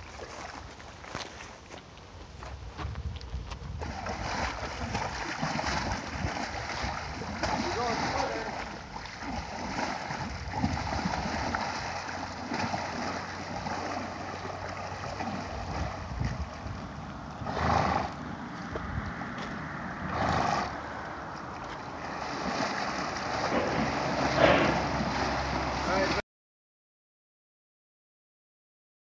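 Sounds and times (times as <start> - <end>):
horse splashing through water: 0.0 - 1.6, 3.7 - 26.2.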